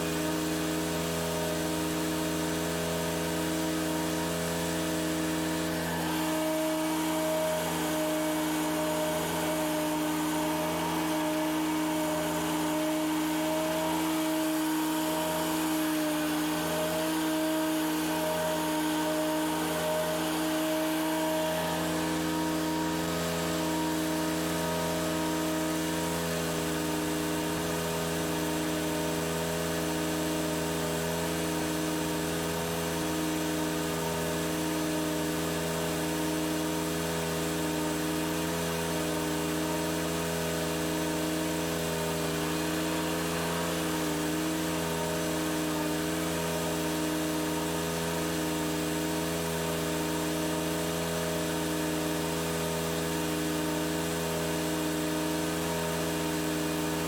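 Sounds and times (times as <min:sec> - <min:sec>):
lawn mower engine drone: 0:00.0 - 0:57.0.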